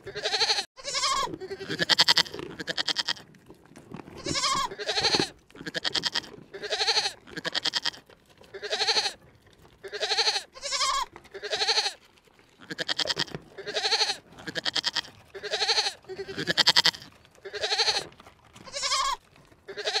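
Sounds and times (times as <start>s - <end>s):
animal bleating cries: 0.0s - 3.2s, 4.2s - 9.2s, 9.8s - 12.0s, 12.6s - 20.0s.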